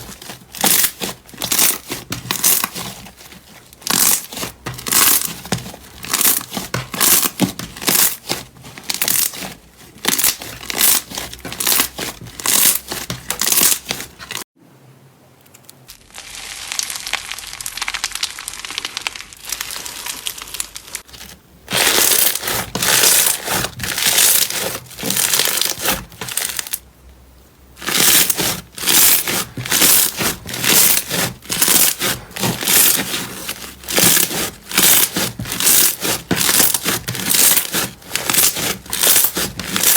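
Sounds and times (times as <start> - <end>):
slime squishing and crackling: 0.0 - 14.5, 15.9 - 26.8, 27.8 - 39.9.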